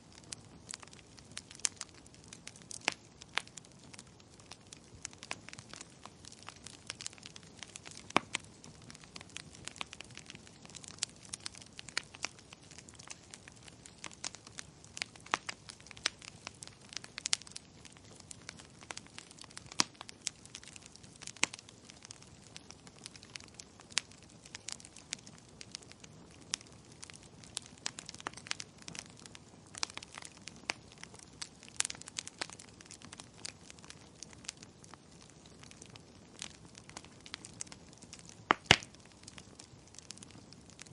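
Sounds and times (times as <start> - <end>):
soft steady hiss: 0.0 - 40.9
wood fire crackling and popping: 0.0 - 40.9.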